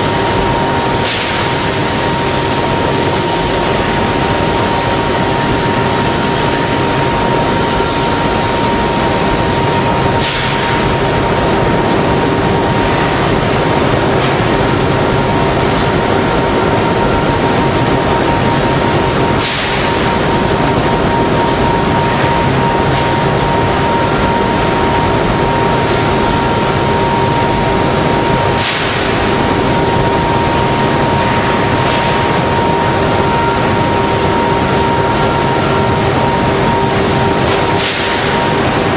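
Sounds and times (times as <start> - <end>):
two-note machinery hum: 0.0 - 38.9.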